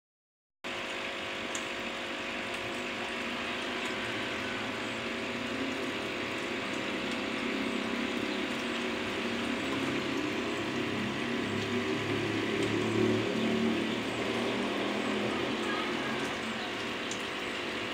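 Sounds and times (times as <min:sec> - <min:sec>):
machine hum: 0:00.7 - 0:17.9
water sloshing in a basin: 0:00.7 - 0:17.9.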